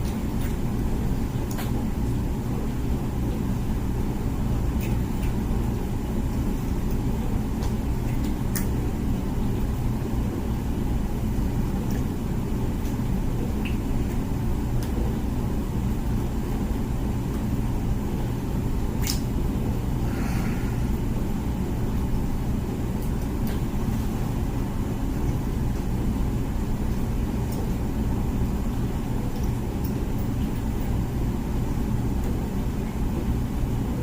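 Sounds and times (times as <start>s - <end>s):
dishwasher low rumble: 0.0s - 34.0s.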